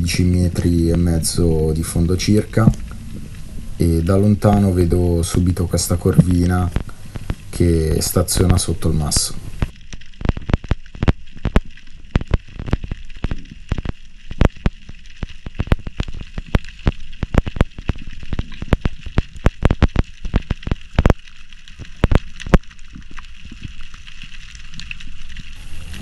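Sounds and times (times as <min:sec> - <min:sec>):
steady hiss: 0:00.0 - 0:26.0
underwater clicks and pops: 0:01.9 - 0:04.8, 0:05.4 - 0:07.6, 0:08.2 - 0:26.0.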